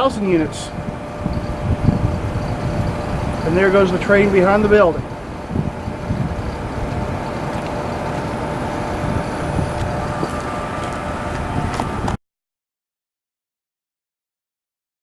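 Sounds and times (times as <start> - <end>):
distant freight train rumble: 0.0 - 12.2
faint steady tones: 0.0 - 12.2.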